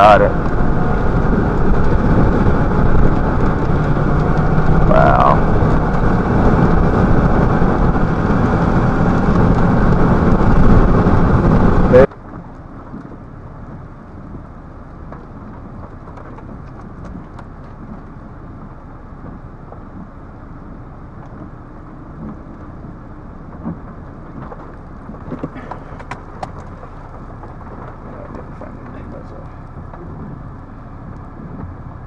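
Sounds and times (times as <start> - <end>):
storm wind rumble on microphone: 0.0 - 32.0.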